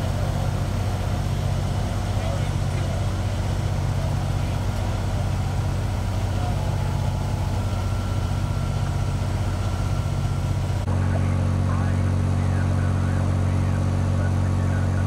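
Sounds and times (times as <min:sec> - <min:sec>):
fire engine idling: 0:00.0 - 0:15.0.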